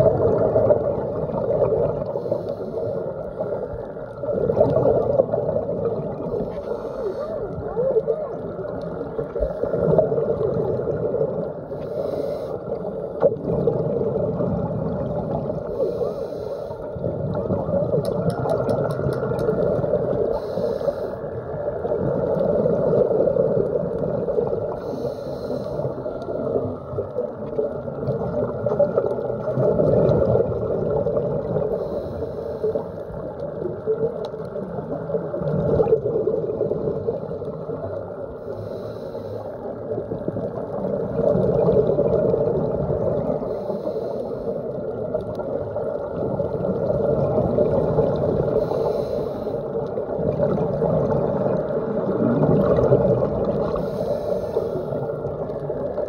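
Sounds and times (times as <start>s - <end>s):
muffled underwater rushing water: 0.0s - 56.0s.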